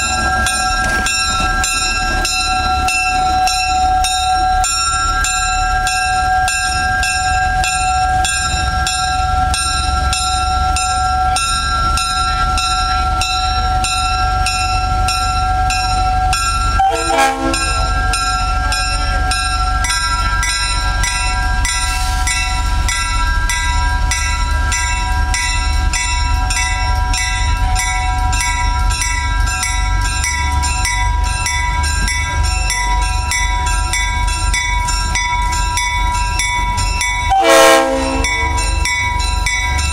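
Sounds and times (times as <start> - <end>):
locomotive engine drone: 0.0 - 39.9.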